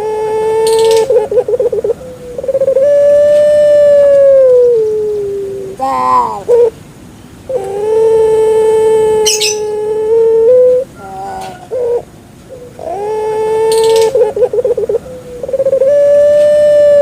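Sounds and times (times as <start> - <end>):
dove cooing: 0.0 - 6.8, 7.5 - 17.0.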